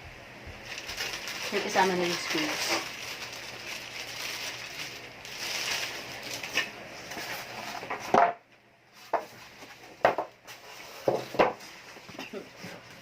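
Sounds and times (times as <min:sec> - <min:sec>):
plastic packaging rustling: 0:00.6 - 0:08.1, 0:08.9 - 0:13.0.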